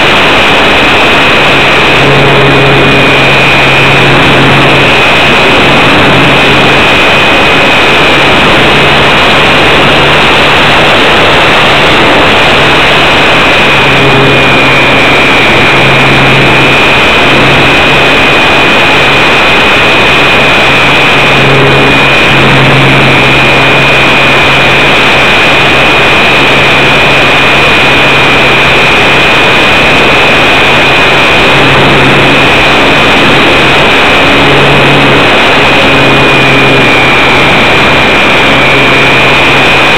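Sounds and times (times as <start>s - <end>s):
air rushing over microphone: 0.0s - 39.9s
electric motor whine: 0.0s - 39.9s.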